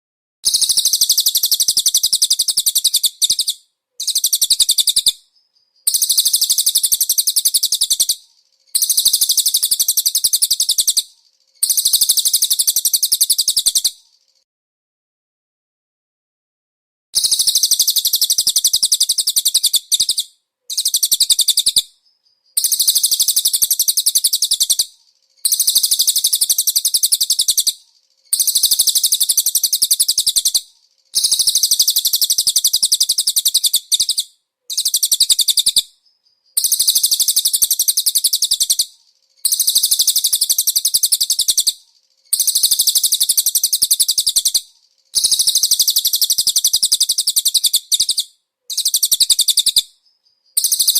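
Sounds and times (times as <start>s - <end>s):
songbird rattling trills: 0.5s - 14.4s, 17.2s - 50.9s.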